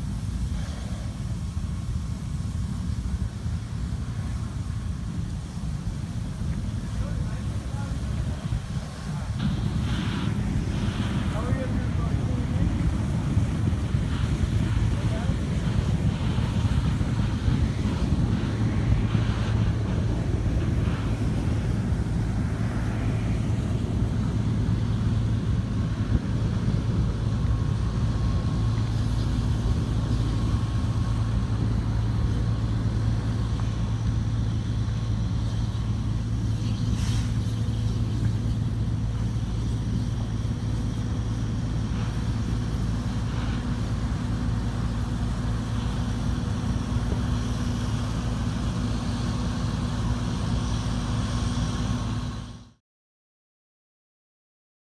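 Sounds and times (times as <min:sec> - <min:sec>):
vehicle engine humming: 0:00.0 - 0:52.8.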